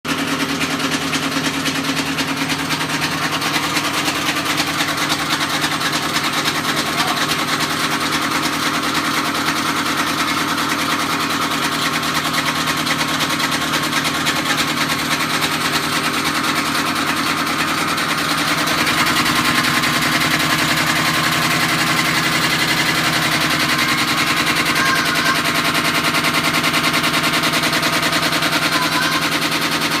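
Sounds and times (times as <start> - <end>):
washing machine rattling: 0.7 - 30.0.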